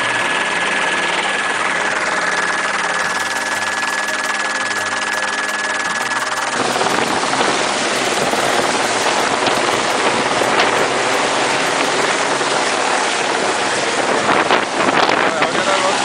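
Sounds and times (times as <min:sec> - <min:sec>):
helicopter cabin drone: 0:00.0 - 0:13.6.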